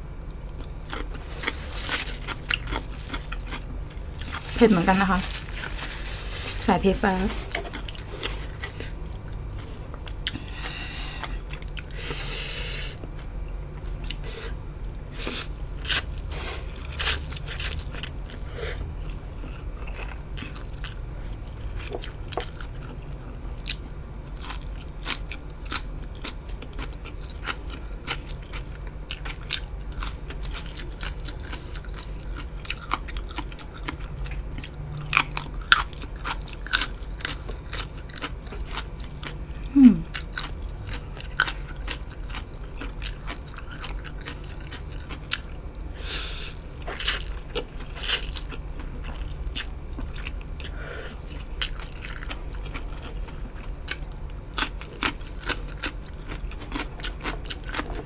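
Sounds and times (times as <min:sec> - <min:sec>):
chewing crunchy food: 0:00.2 - 0:12.3, 0:12.9 - 0:58.0.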